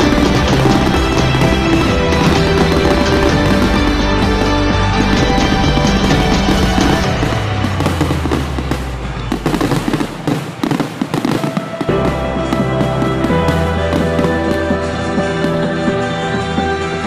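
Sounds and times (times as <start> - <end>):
background music: 0.0 - 17.0
fireworks bangs and crackling: 0.0 - 17.0.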